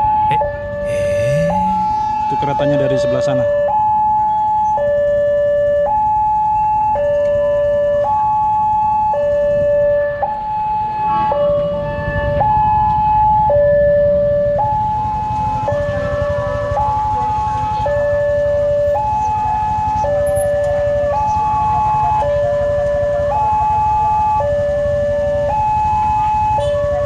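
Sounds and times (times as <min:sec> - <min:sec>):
level crossing two-tone alarm: 0:00.0 - 0:27.0.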